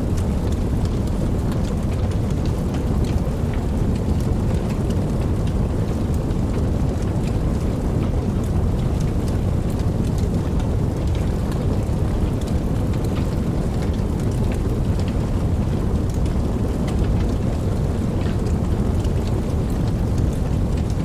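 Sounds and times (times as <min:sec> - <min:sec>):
steady rainfall hiss: 0:00.0 - 0:21.0
raindrops ticking: 0:00.1 - 0:21.0.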